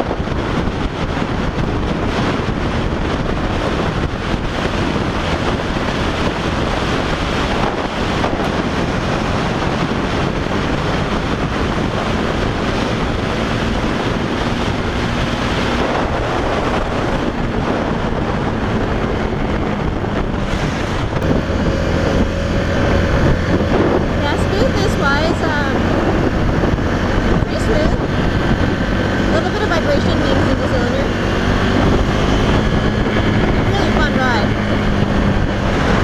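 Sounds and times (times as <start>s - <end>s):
motorcycle engine running: 0.0s - 36.0s
wind rushing over microphone: 0.0s - 36.0s.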